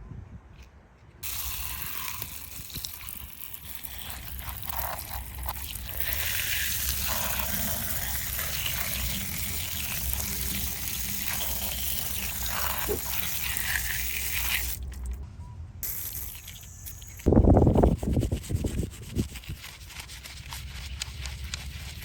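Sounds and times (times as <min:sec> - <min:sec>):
water spray hissing: 0:01.2 - 0:15.2, 0:15.8 - 0:22.0.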